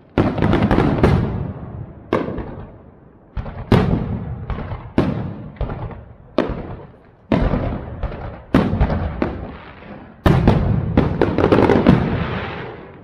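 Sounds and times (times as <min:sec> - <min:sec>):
fireworks bursting with echoes: 0:00.0 - 0:13.0.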